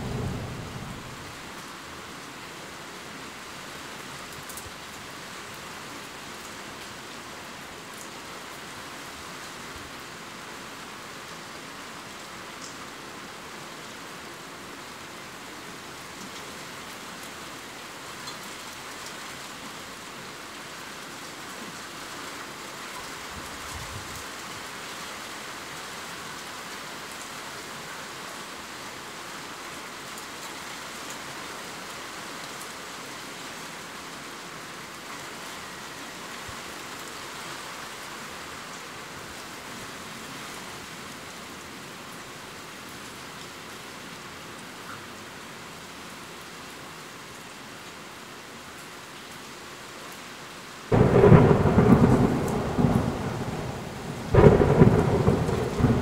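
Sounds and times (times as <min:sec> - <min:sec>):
heavy rain downpour: 0:00.0 - 0:56.0.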